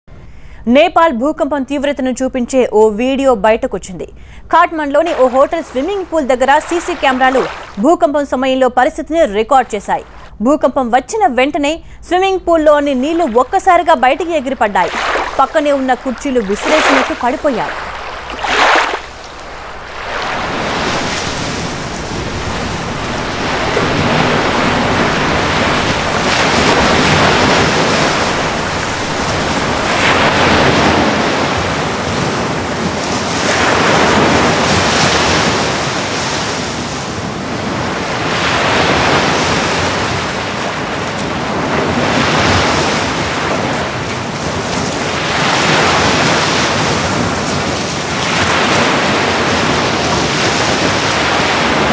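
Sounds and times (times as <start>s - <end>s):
pool water surging and sloshing: 4.9s - 7.9s, 13.1s - 51.9s.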